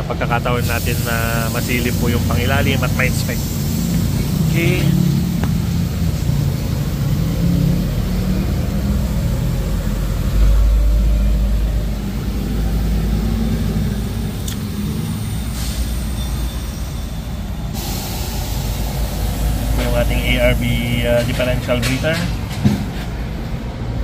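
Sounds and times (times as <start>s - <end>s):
low machinery rumble: 0.0s - 24.0s.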